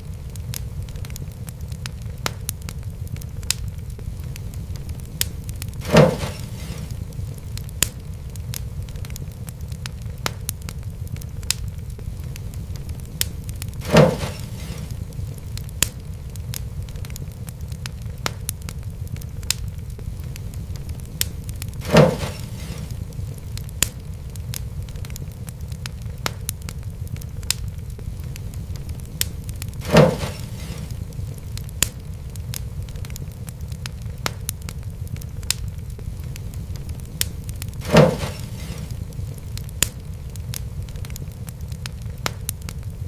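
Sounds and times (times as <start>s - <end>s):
low rumble: 0.0s - 41.4s
wood fire crackling: 0.0s - 43.0s.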